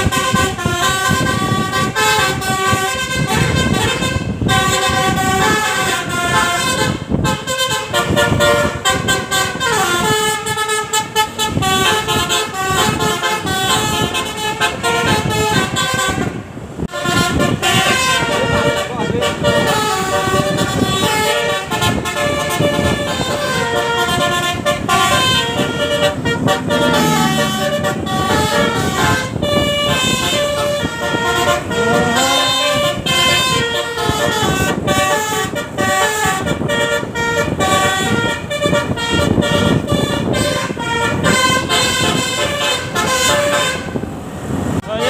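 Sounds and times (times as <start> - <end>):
bus musical horn playing a tune: 0.0 - 45.0.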